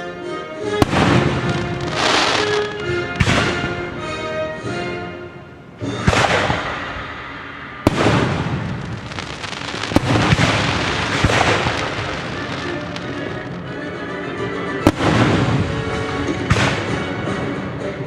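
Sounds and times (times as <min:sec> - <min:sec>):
orchestral music: 0:00.0 - 0:18.0
fireworks bangs: 0:00.7 - 0:14.1, 0:14.8 - 0:17.4
fireworks crackling: 0:00.8 - 0:17.5.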